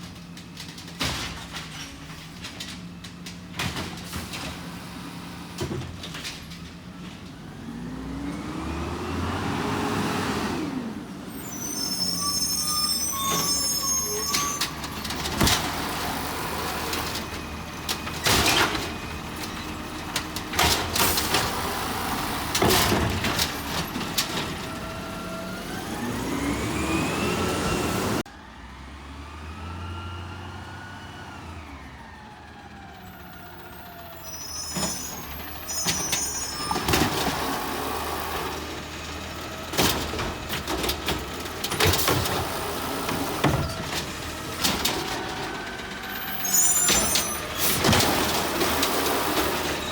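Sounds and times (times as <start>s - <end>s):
garbage truck engine revving: 7.3s - 49.9s.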